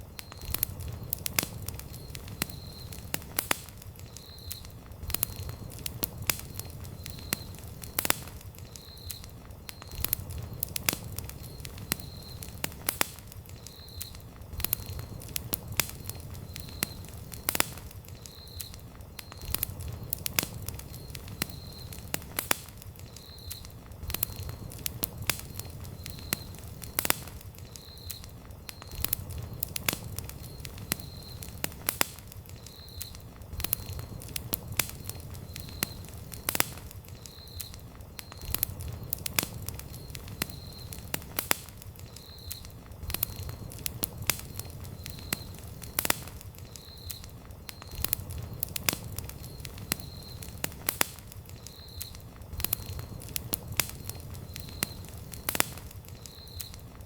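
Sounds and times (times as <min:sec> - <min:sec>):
campfire crackling and popping: 0:00.0 - 0:57.0
low rumble of fire: 0:00.0 - 0:57.0.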